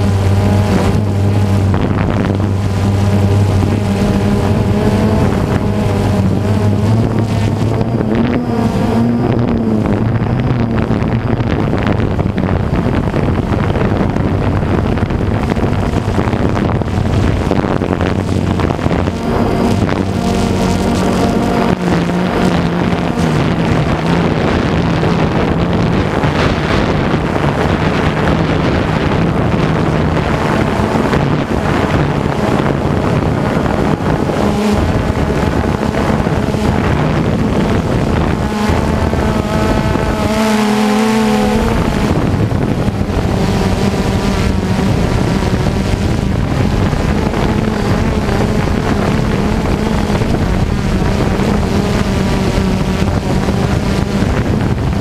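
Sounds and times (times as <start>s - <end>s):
drone propellers buzzing: 0.0s - 55.0s
wind noise on microphone: 0.0s - 55.0s.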